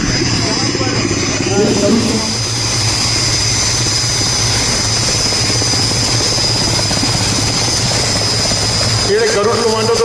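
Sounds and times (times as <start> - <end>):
helicopter rotor and engine: 0.0 - 10.0.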